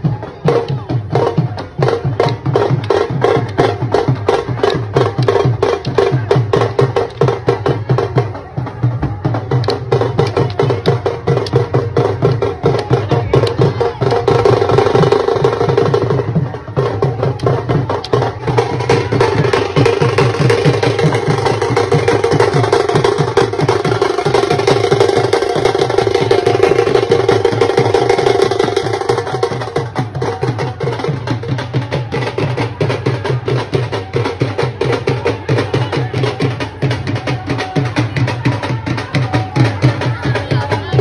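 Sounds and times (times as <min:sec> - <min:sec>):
rapid steady drumming: 0:00.0 - 0:41.0.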